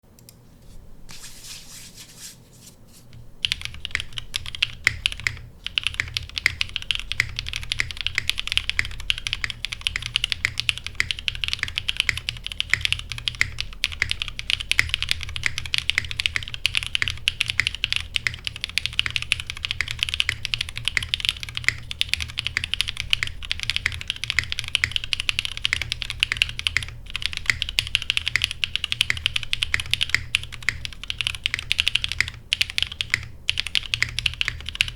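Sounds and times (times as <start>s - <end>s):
mechanical keyboard typing: 3.4s - 34.9s.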